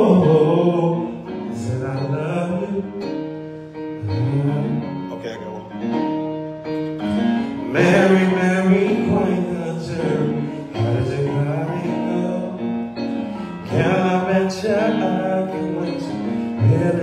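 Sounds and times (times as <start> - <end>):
man singing into a microphone: 0.0 - 3.4, 4.0 - 5.1, 7.6 - 17.0
sustained keyboard chords: 0.0 - 17.0.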